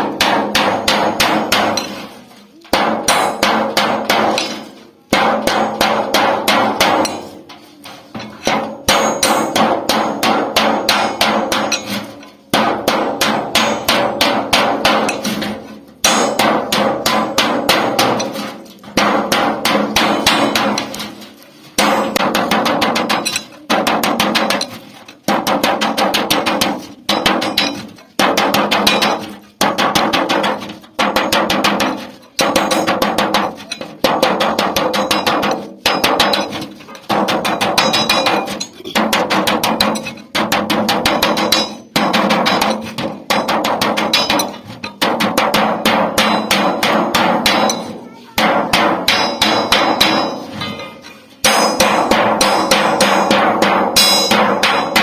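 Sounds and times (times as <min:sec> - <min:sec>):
hammer beating sheet metal: 0:00.0 - 0:55.0.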